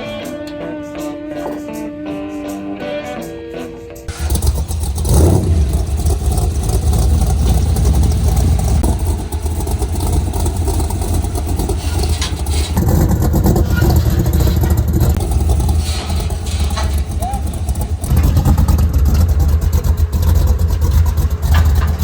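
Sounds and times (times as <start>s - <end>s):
road and wind noise: 4.0s - 22.0s
car engine drone: 4.1s - 22.0s.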